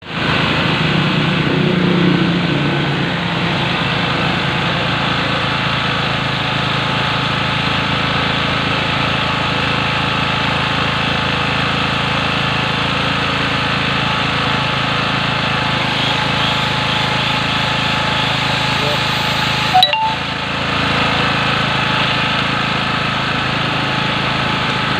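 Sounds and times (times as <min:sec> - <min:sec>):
petrol generator running: 0:00.0 - 0:24.9.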